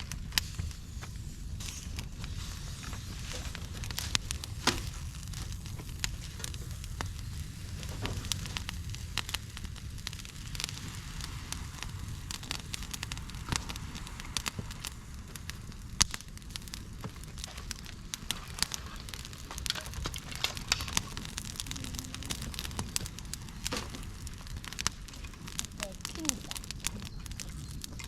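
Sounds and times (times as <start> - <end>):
campfire crackling and popping: 0.0 - 28.0
low fire rumble: 0.0 - 28.0.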